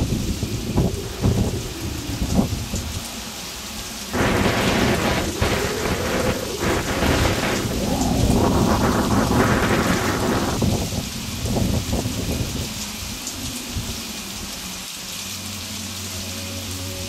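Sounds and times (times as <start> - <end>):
thunder cracking and rumbling: 0.0 - 14.8
steady rain: 0.0 - 17.0.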